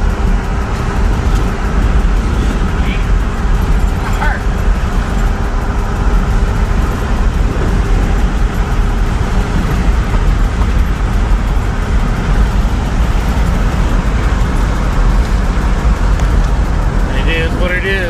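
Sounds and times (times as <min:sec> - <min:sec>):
road and engine noise in cab: 0:00.0 - 0:18.0.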